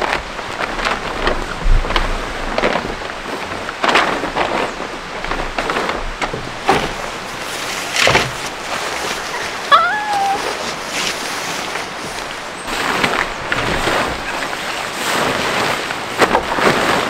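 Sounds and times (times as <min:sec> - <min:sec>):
plastic tarp crinkling: 0:00.0 - 0:17.0
wind rumbling on microphone: 0:00.0 - 0:17.0.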